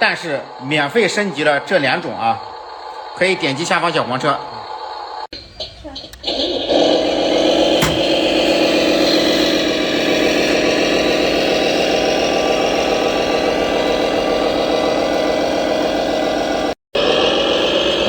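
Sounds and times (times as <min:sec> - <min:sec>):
toy truck mechanical hum: 0:00.0 - 0:18.0.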